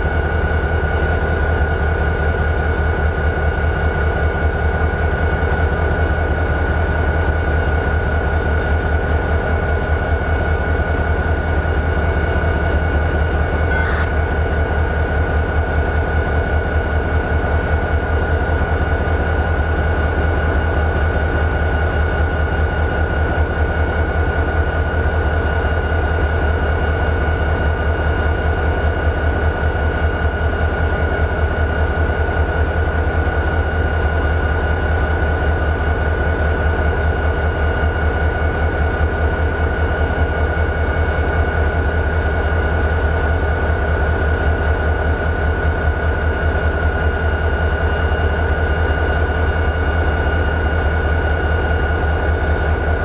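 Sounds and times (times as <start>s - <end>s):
diesel locomotive engine idling: 0.0s - 53.0s
high-pitched whine: 0.0s - 53.0s.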